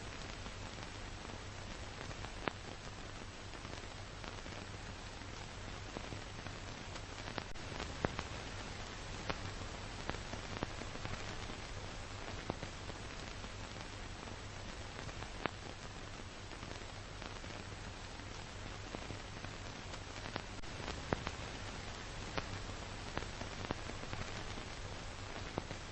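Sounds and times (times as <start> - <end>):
faint low hum: 0.0 - 25.9
steady film hiss: 0.0 - 25.9.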